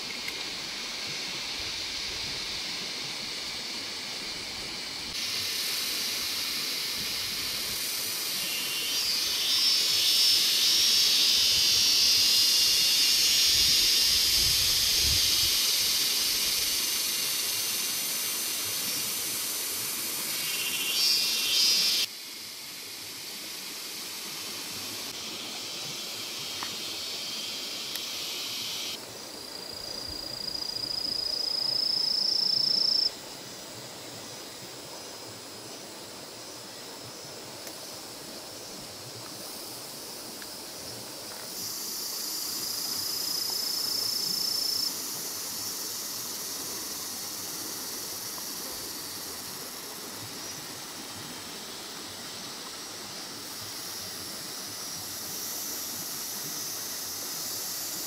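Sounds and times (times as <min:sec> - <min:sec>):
shrill insect chorus: 0:00.0 - 0:58.0.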